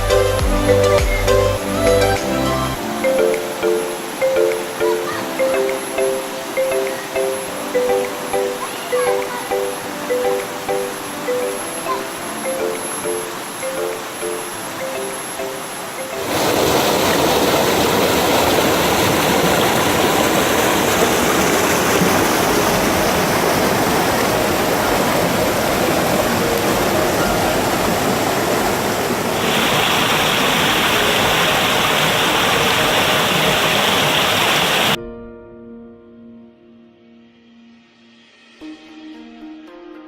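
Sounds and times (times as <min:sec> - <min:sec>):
waterfall rushing and splashing: 0:00.0 - 0:35.0.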